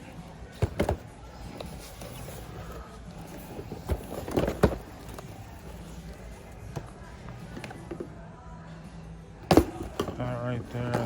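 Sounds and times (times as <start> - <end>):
boxes knocking and scraping: 0.4 - 8.2, 9.4 - 11.0.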